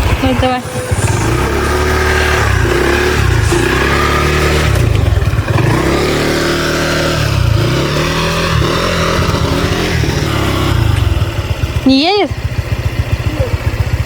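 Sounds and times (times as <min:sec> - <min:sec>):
scooter engine revving: 0:00.0 - 0:14.0.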